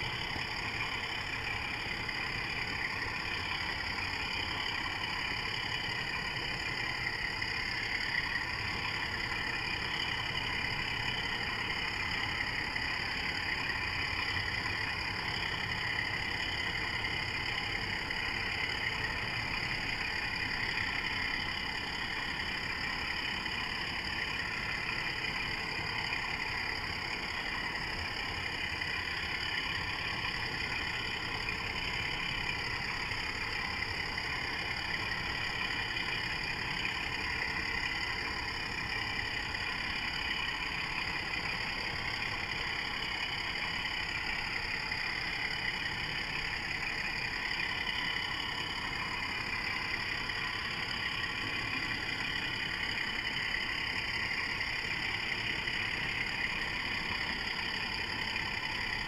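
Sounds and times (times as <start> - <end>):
model locomotive droning with whine: 0.0 - 59.0.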